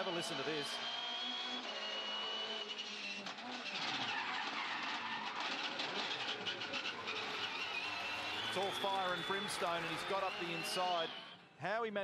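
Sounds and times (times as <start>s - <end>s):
tyres skidding: 0.0s - 11.4s
race car engine at speed: 0.0s - 11.6s.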